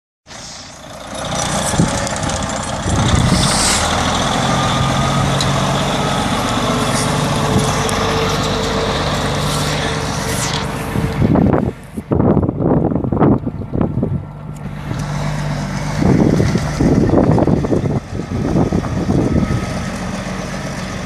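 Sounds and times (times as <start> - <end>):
diesel truck engine pulling away: 0.3 - 21.0.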